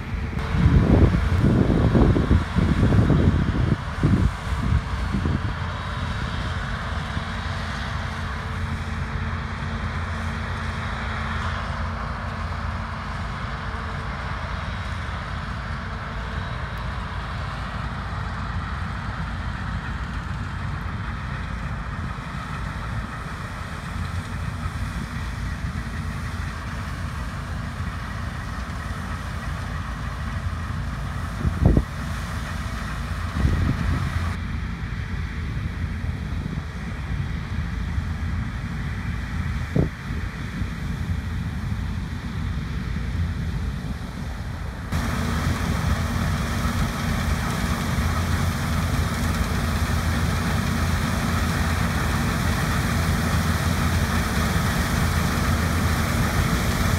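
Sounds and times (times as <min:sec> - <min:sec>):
diesel machinery running: 0:00.0 - 0:56.9.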